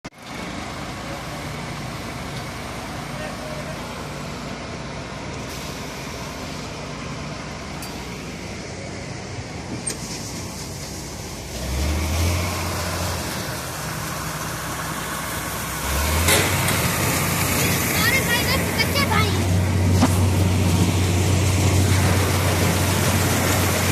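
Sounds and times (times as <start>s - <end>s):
harvester engine deep hum: 0.2s - 23.9s.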